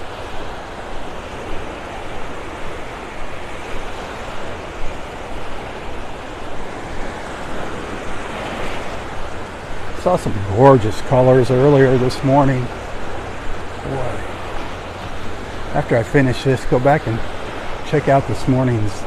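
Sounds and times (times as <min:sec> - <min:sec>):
waves washing on sandy beach: 0:00.0 - 0:19.0.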